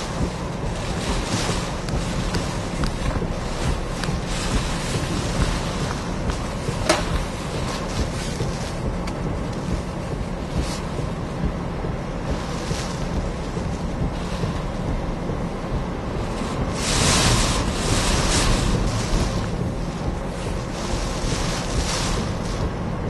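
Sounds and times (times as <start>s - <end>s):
hurricane wind around a vehicle: 0.0s - 23.0s.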